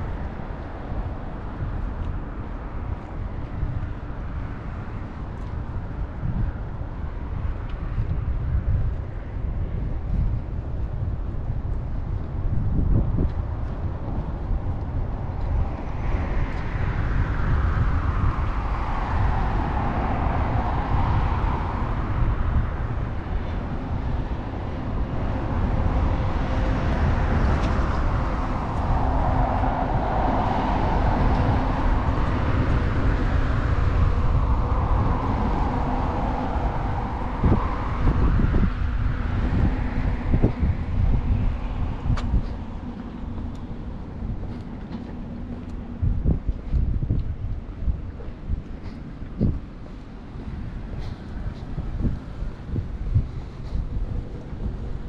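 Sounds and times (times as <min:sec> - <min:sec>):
vehicles passing close by: 0:00.0 - 0:55.0
wind rumble on microphone: 0:00.0 - 0:55.0.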